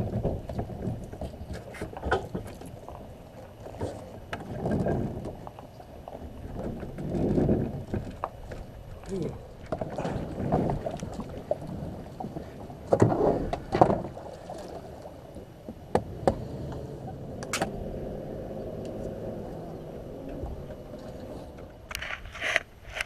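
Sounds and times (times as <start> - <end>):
water wash from paddling: 0.0 - 23.0.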